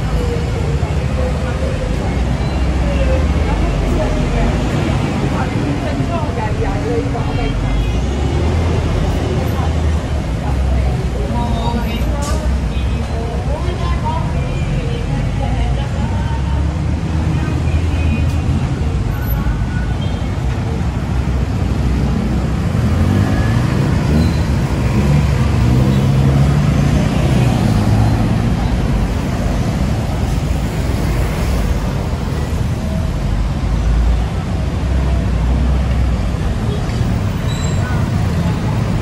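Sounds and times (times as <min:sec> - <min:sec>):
vehicle engines passing: 0:00.0 - 0:39.0.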